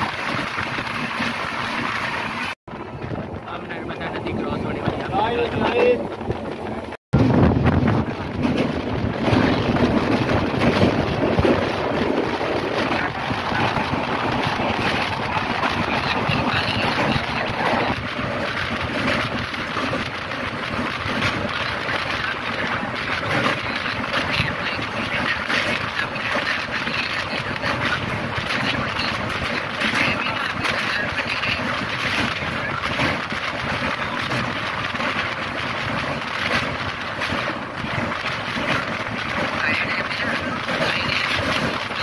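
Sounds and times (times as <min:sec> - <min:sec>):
train rumbling over bridge: 0:00.0 - 0:42.0
wind buffeting microphone: 0:00.0 - 0:42.0.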